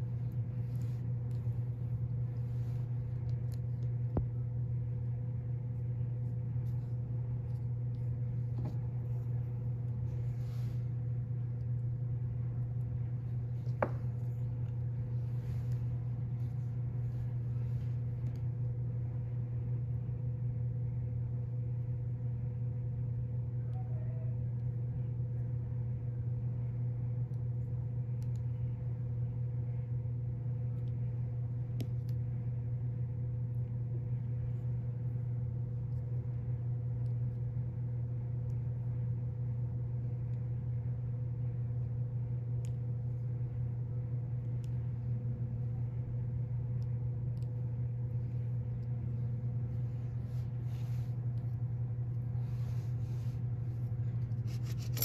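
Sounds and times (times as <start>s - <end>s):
faint steady tone: 0.0s - 55.0s
low machine hum: 0.0s - 55.0s.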